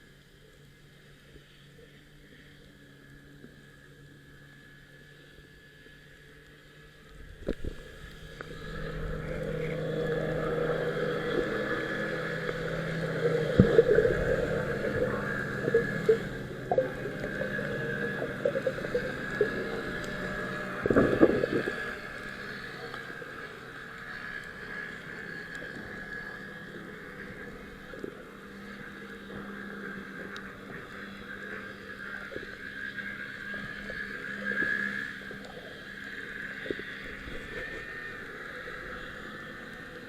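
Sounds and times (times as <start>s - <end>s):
motorboat engine running: 0.0s - 40.0s.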